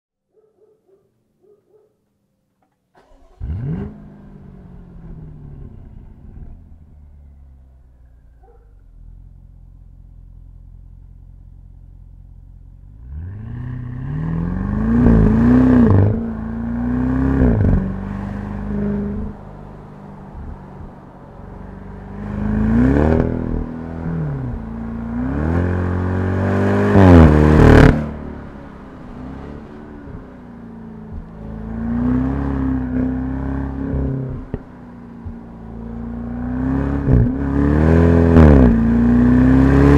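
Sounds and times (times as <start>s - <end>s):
car engine revving: 3.0s - 39.9s.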